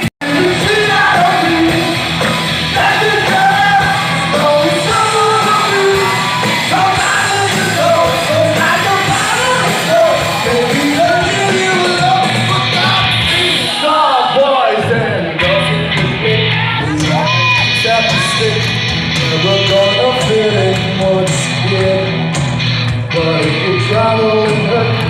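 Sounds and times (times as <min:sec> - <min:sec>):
lead singer singing: 0:00.0 - 0:25.0
live rock band playing: 0:00.0 - 0:25.0.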